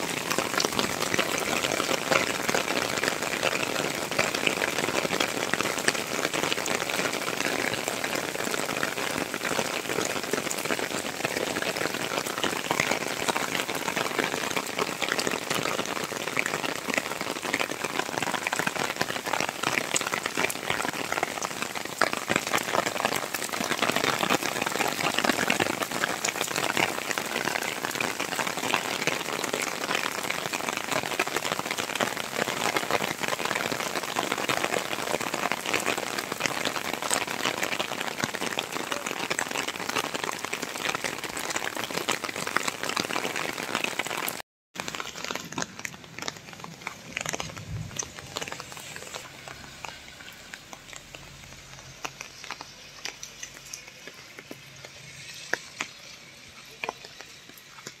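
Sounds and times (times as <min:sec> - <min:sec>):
heavy rain on wet paving: 0:00.0 - 0:58.0.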